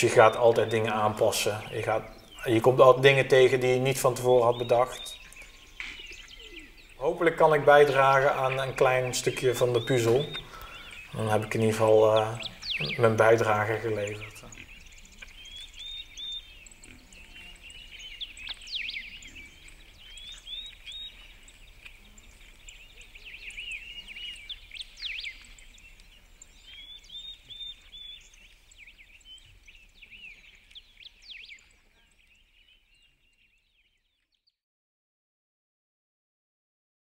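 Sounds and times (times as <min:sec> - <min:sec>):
birds chirping and singing: 0:00.0 - 0:34.5.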